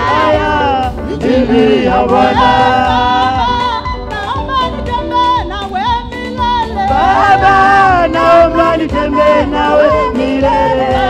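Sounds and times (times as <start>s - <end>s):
group singing gospel song: 0.0s - 11.0s
instrumental backing: 0.0s - 11.0s.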